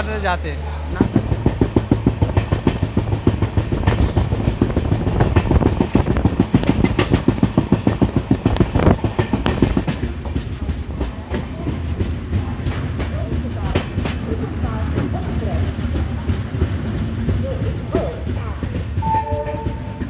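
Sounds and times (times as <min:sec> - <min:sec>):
train low rumble: 0:00.0 - 0:20.0
train wheels clattering: 0:00.9 - 0:20.0.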